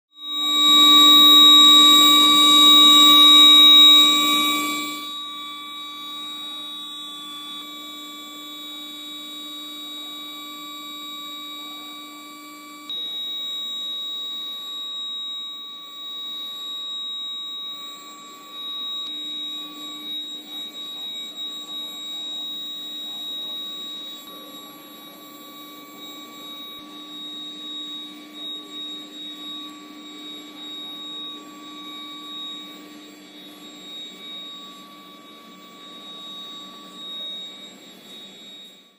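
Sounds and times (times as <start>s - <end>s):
induction furnace buzzing whine: 0.2s - 38.9s.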